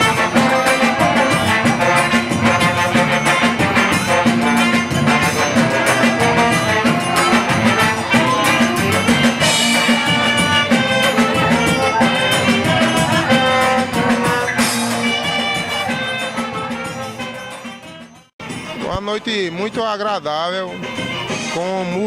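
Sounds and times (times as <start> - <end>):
fast percussion beat: 0.0 - 22.0
live band playing upbeat music: 0.0 - 22.0.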